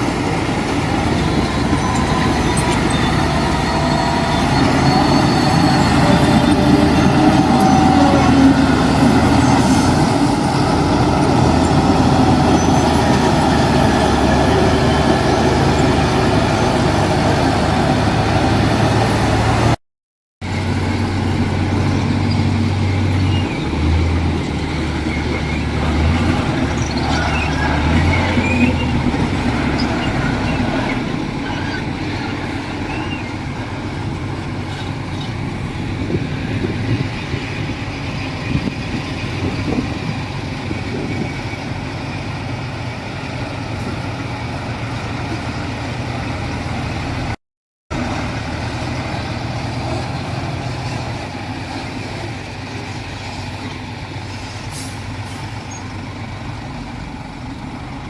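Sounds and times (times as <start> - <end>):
diesel construction machinery running: 0.0 - 19.8, 20.4 - 58.0.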